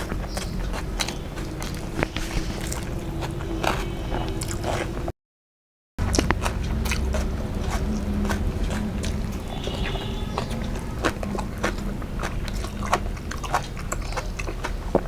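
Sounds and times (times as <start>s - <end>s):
food crunching: 0.0s - 5.1s, 6.0s - 15.0s
mouth clicks: 0.0s - 5.1s, 6.0s - 15.0s
wet chewing and squishing: 0.0s - 5.1s, 6.0s - 15.0s.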